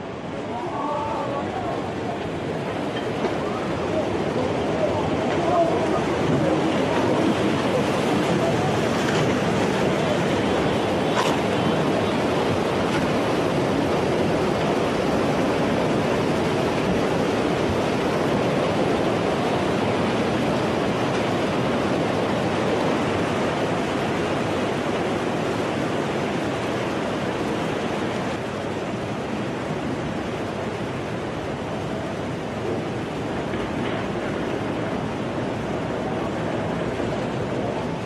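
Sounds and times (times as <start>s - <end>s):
floodwater rushing and churning: 0.0s - 38.0s.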